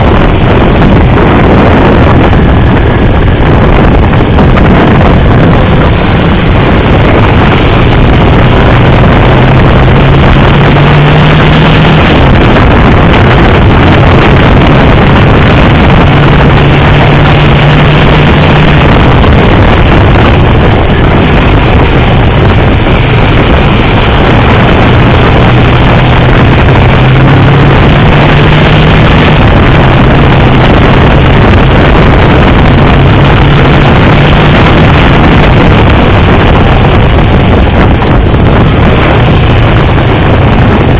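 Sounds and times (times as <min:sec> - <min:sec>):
motorcycle engine drone: 0:00.0 - 0:40.9
wind rush over microphone: 0:00.0 - 0:40.9.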